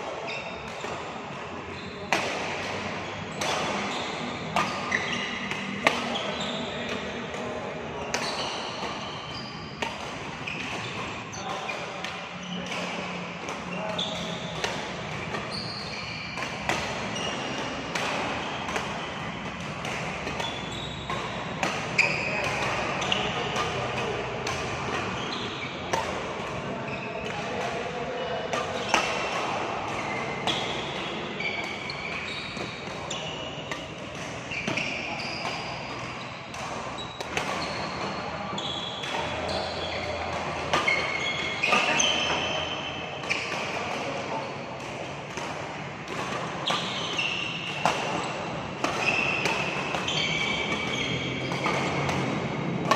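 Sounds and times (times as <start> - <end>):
rackets hitting shuttlecock: 0.0 - 52.9
shoes squeaking on court: 0.2 - 1.0, 1.6 - 27.6, 28.6 - 45.1, 46.1 - 52.9.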